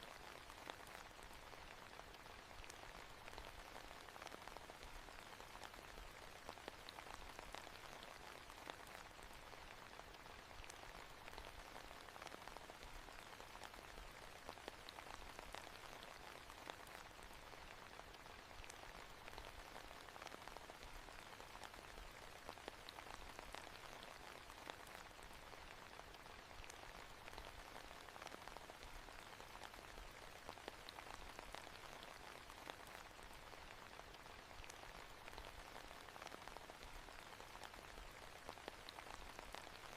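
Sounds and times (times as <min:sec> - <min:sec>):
faint steady rain: 0:00.0 - 0:39.9
raindrop ticks: 0:00.0 - 0:39.9.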